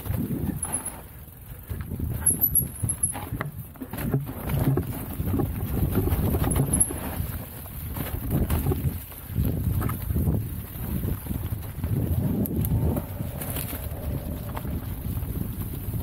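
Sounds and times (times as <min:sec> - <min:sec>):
bike clicks and rattles: 0:00.0 - 0:16.0
bike tyres rumbling on dirt: 0:00.0 - 0:16.0.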